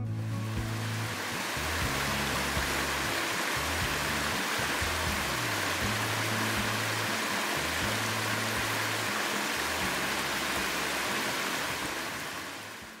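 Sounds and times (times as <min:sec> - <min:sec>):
background music with low notes: 0:00.0 - 0:13.0
flowing water rushing: 0:00.2 - 0:13.0.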